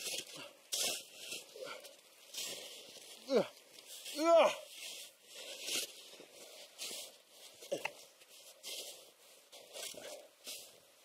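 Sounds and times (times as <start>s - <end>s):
snow shovel scraping snow: 0.0s - 3.1s, 3.8s - 7.7s, 8.3s - 10.8s.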